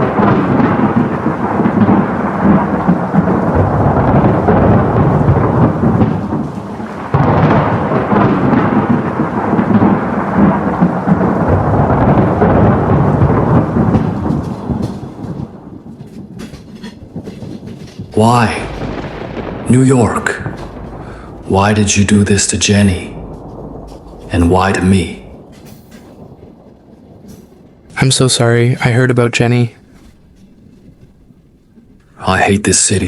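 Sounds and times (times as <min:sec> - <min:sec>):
rain: 0:00.0 - 0:33.0
rolling thunder: 0:00.0 - 0:33.0.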